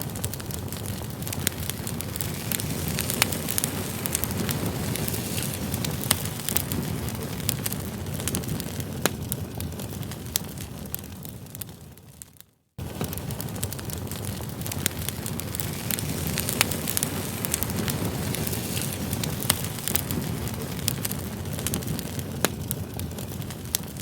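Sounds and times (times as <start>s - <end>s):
burning wood crackling and popping: 0.0s - 24.0s
flames rushing: 0.0s - 24.0s.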